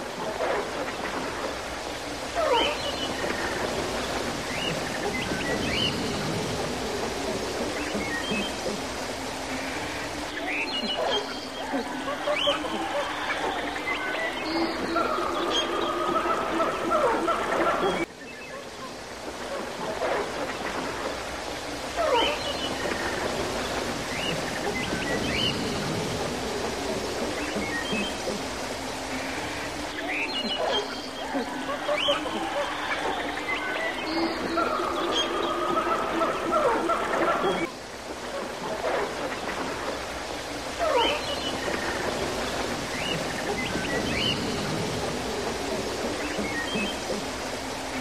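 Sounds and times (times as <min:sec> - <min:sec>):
steady background hiss: 0:00.0 - 0:48.0
steady rushing noise: 0:00.0 - 0:48.0.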